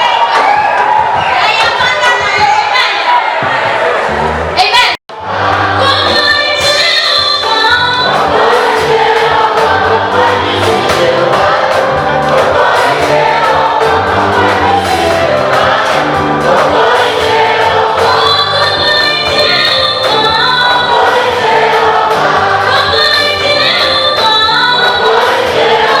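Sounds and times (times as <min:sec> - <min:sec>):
choir singing gospel in harmony: 0:05.2 - 0:26.0.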